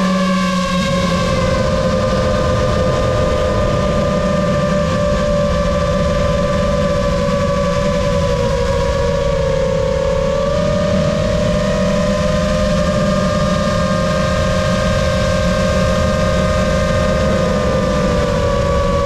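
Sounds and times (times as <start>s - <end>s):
drone propellers whining: 0.0s - 19.0s
low rumble: 0.0s - 19.0s.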